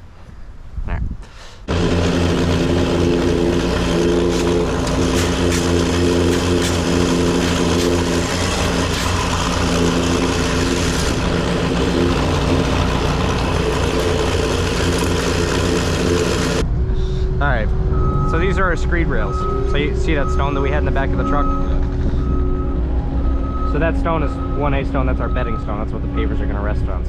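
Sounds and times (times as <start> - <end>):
engine running with low throb: 1.6 - 27.0.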